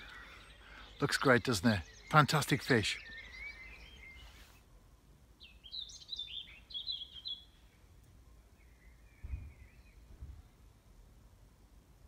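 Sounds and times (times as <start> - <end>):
soft rush of noise: 0.0 - 12.0
songbird chirping: 0.0 - 12.0.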